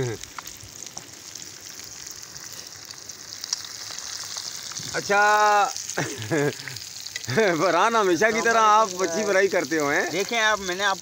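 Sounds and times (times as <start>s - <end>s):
oil sizzling while deep-frying: 0.0s - 11.0s.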